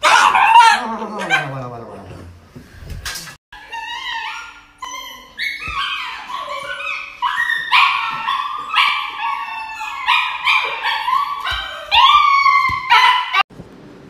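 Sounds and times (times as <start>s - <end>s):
dog howling and yelping: 0.0s - 1.6s, 3.6s - 13.4s.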